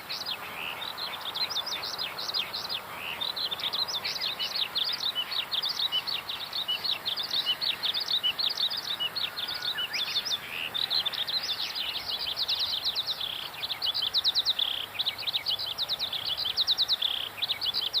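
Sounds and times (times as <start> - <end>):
small songbirds chirping: 0.0 - 18.0.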